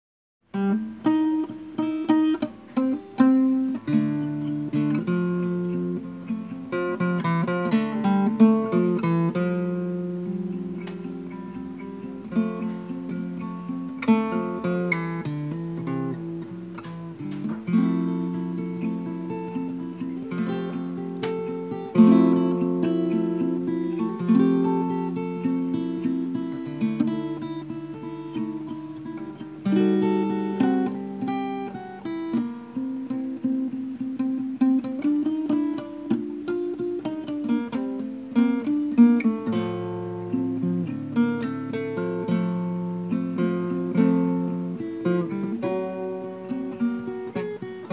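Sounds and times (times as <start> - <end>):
acoustic guitar played slowly: 0.4 - 47.9.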